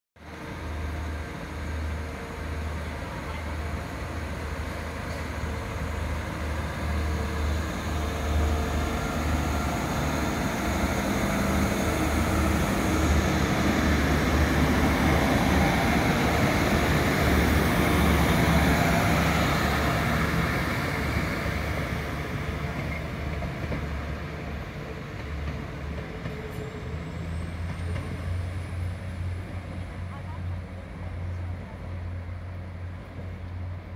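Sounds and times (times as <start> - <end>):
diesel train engines accelerating: 0.2 - 33.9.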